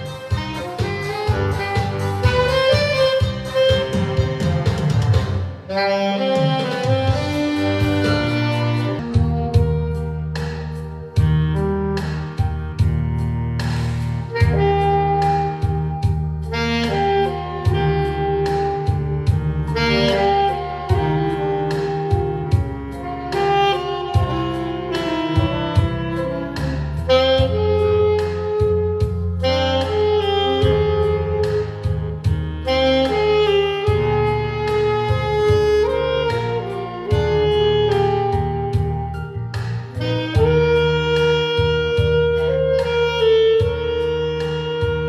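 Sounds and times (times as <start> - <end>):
saxophone melody: 0.0 - 45.0
steady drum beat and bass: 0.0 - 45.0.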